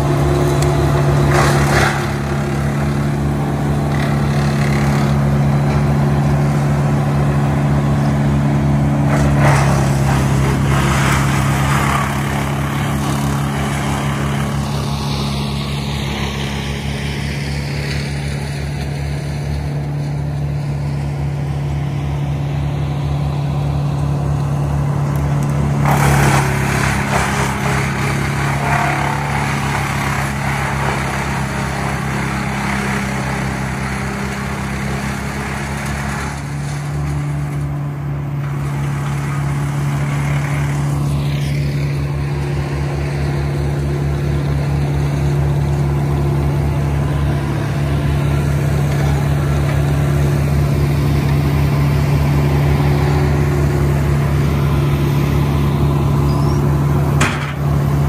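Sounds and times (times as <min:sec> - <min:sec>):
rough noisy layer: 0:00.0 - 0:58.0
wood chipper engine running: 0:00.0 - 0:58.0.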